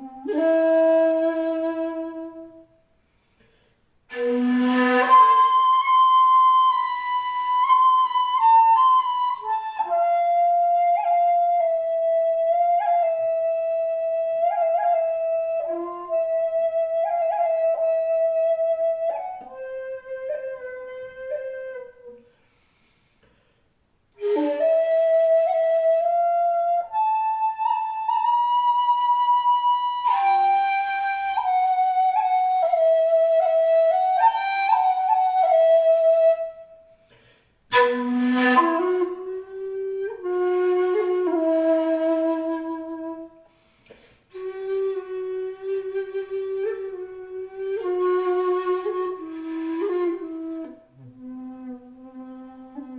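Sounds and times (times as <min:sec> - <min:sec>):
bamboo flute solo: 0:00.0 - 0:02.8, 0:04.1 - 0:22.4, 0:24.2 - 0:52.9.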